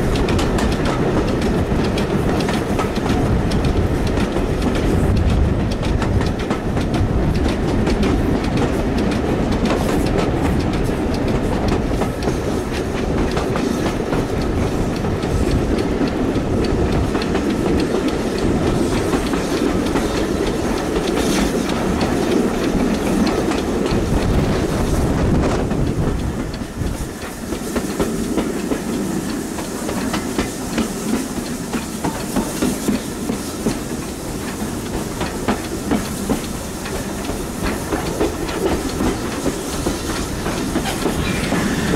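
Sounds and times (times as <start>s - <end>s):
train deep rumble: 0.0s - 41.9s
wheels clacking over rail joints: 0.0s - 41.9s.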